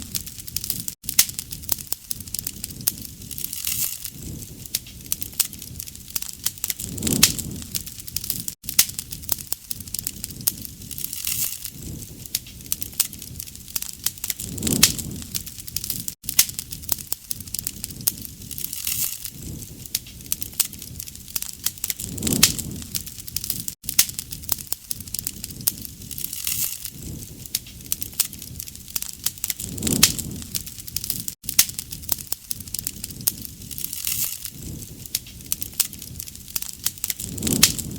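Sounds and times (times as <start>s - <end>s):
flame rushing: 0.0s - 37.9s
wood fire crackling: 0.0s - 37.9s.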